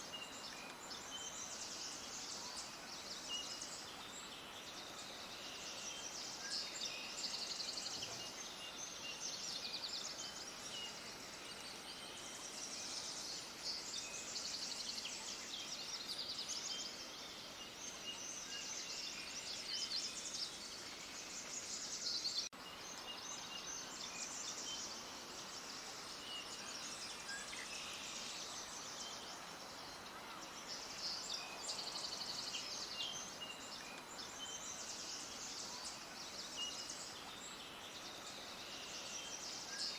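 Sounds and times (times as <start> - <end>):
faint background hiss: 0.0 - 39.9
songbirds chirping and twittering: 0.0 - 39.9.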